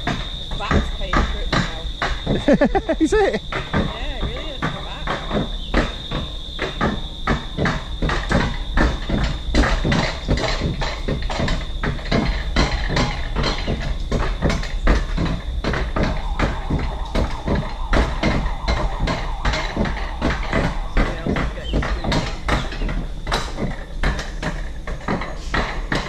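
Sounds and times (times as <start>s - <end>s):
low rumble of sled on track: 0.0s - 26.0s
wheels clattering over track joints: 0.0s - 26.0s.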